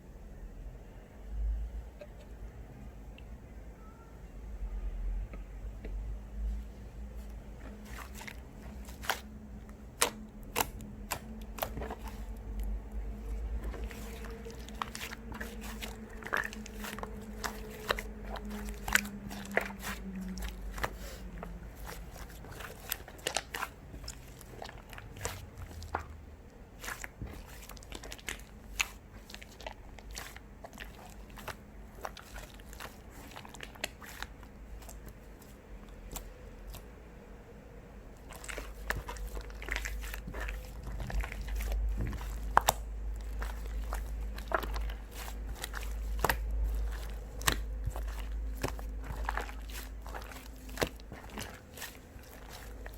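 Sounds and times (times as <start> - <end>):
low steady hum: 0.0 - 52.9
slime crackling and popping: 7.7 - 36.8, 38.2 - 52.9.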